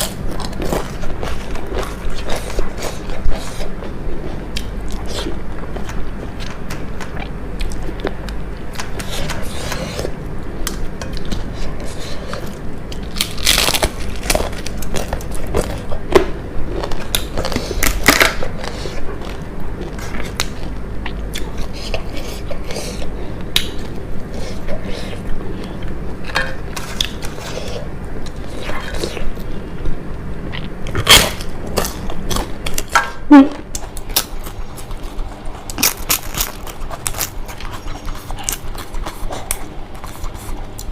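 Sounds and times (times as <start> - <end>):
crunching and chewing food: 0.0 - 40.9.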